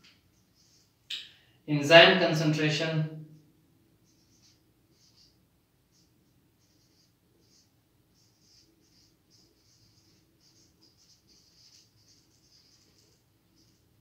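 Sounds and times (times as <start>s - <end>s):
marker pen on whiteboard: 0.0s - 1.3s, 3.9s - 14.0s.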